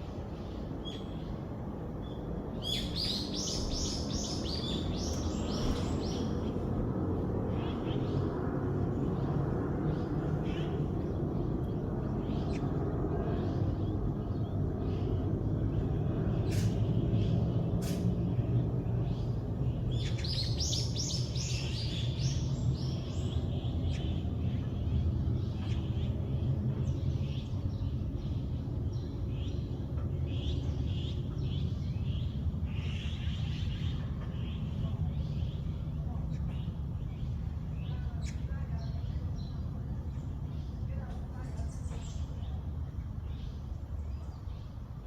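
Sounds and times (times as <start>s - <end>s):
low background rumble: 0.0s - 45.0s
birds chirping: 0.1s - 45.0s.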